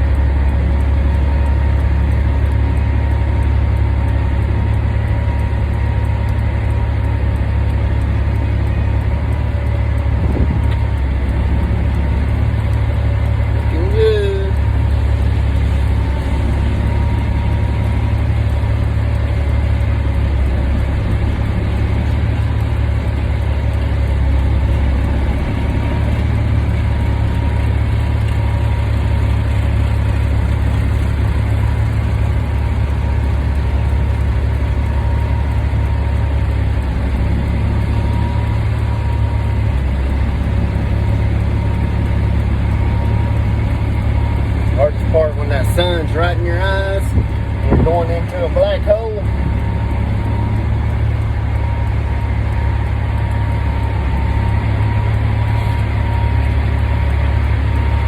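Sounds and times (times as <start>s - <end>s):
truck diesel engine idling: 0.0s - 58.0s.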